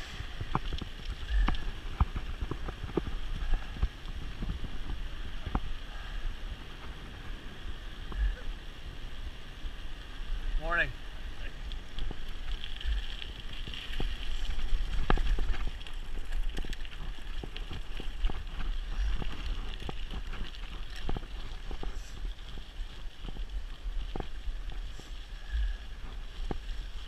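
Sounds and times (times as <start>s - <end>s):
bike clicks and rattles: 0.0s - 8.4s, 11.5s - 27.0s
bike rolling on gravel: 0.0s - 27.0s
wind buffeting microphone: 0.0s - 27.0s.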